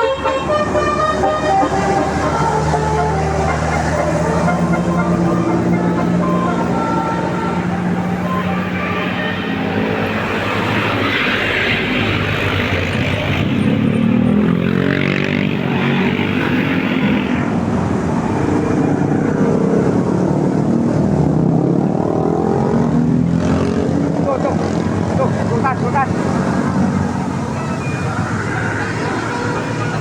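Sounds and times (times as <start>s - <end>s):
heavy bus engine passing: 0.0s - 30.0s.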